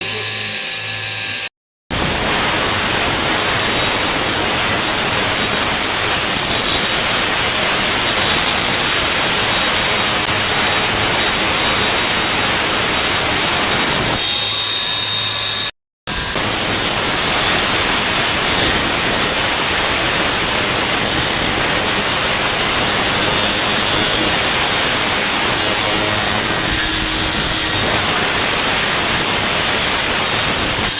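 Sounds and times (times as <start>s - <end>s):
woodworking power tool whining: 0.0s - 1.5s, 2.1s - 30.9s.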